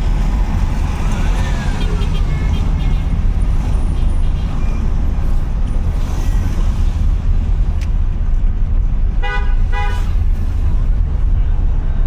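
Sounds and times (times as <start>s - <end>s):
car driving on road: 0.0s - 12.0s.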